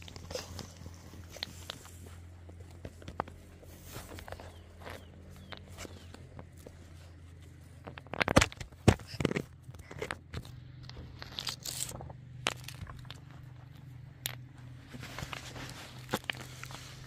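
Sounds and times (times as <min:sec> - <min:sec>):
crunching handling sounds: 0:00.0 - 0:17.0
low steady hum: 0:00.0 - 0:17.0.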